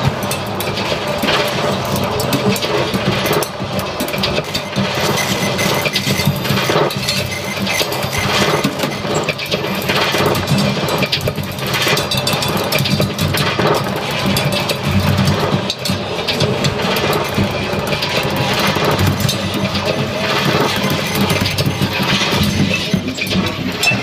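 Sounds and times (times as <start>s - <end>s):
rumbling electronic noise: 0.0s - 12.4s, 13.3s - 24.0s
drum kit clattering: 0.0s - 24.0s.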